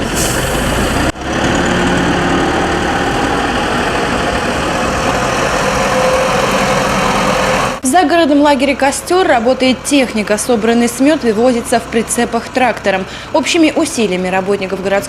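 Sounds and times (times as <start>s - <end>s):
tractor engine running: 0.0s - 7.8s, 8.6s - 15.0s.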